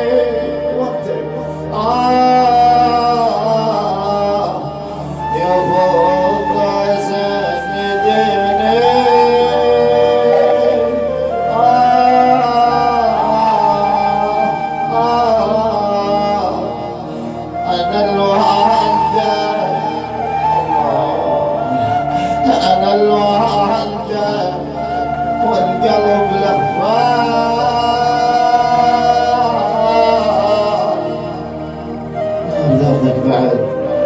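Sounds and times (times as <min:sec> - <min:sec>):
man chanting a lament: 0:00.0 - 0:34.0.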